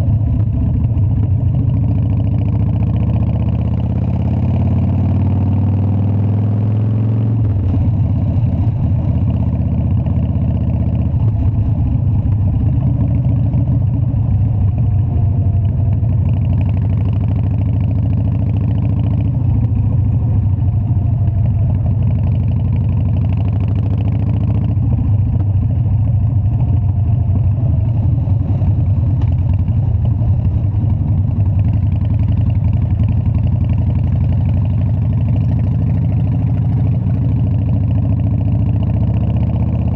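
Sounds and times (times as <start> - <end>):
motorcycle engine throbbing: 0.0 - 39.9.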